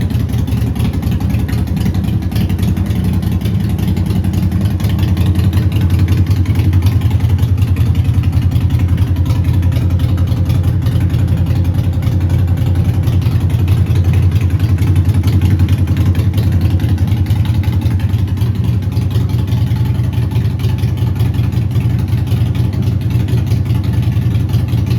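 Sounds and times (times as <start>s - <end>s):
motorcycle engine idling: 0.0s - 24.9s.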